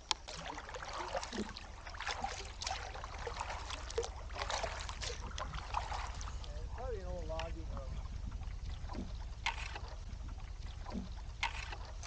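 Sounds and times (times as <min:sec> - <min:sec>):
paddle splashing in water: 0:00.0 - 0:12.0
water dripping from paddle: 0:00.0 - 0:12.0.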